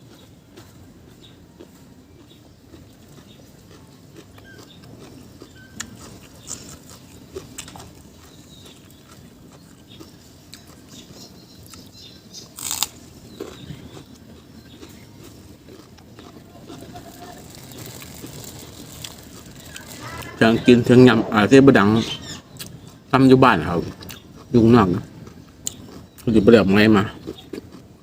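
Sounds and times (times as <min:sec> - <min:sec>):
chewing: 0:00.0 - 0:21.3, 0:21.9 - 0:28.0.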